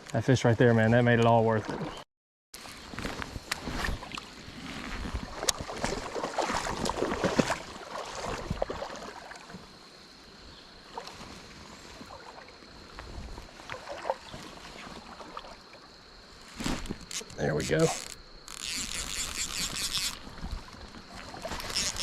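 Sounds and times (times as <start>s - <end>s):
water sloshing and splashing: 1.3s - 2.0s, 2.6s - 9.8s, 10.7s - 22.0s.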